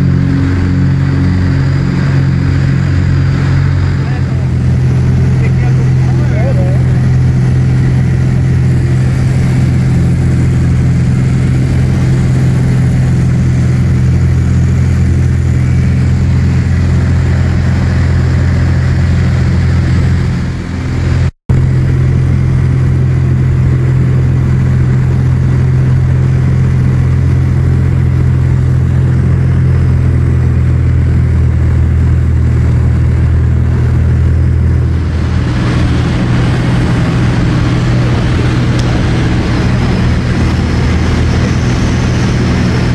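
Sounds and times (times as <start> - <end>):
propeller aircraft engine drone: 0.0 - 42.9.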